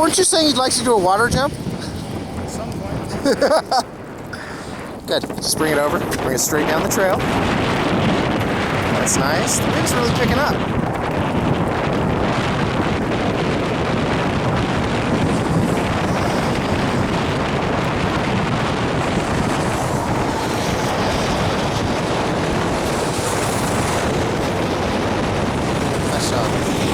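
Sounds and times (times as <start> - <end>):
strong wind buffeting microphone: 0.0 - 26.9.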